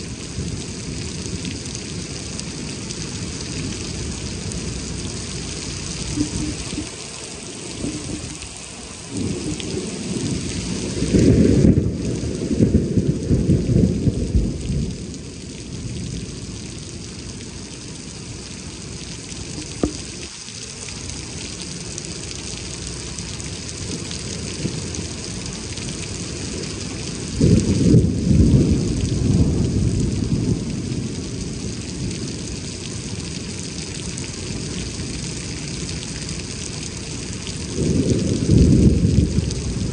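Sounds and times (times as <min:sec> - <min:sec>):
low thunder rumbling: 0:00.0 - 0:20.4, 0:21.6 - 0:39.9
heavy rain pouring: 0:00.0 - 0:39.9.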